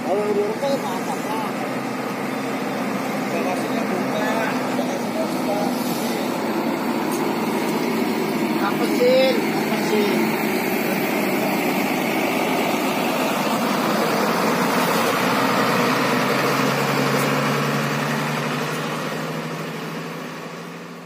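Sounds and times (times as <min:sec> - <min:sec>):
bus engine pulling away: 0:00.0 - 0:21.0.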